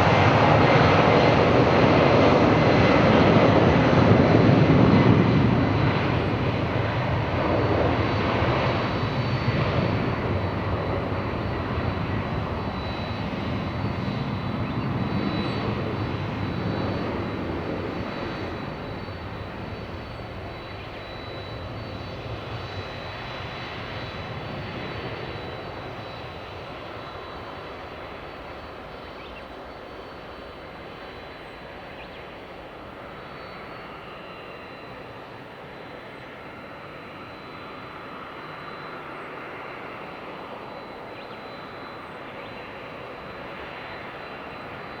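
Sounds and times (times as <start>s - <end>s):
jet engine rumble with whine: 0.0s - 45.0s.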